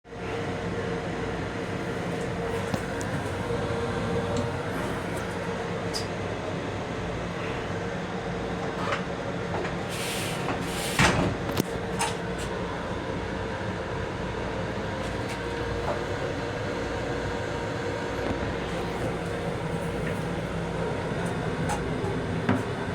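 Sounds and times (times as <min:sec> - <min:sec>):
railcar rumble and hum: 0:00.1 - 0:22.9.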